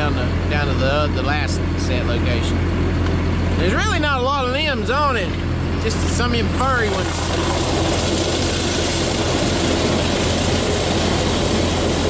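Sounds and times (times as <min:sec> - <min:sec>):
heavy diesel machinery drone: 0:00.0 - 0:12.0.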